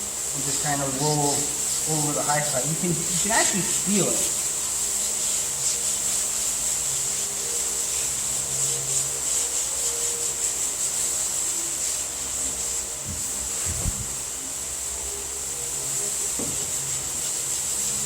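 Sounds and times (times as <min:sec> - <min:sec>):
sandpaper rubbing on panel: 0:00.0 - 0:14.4, 0:15.6 - 0:18.0.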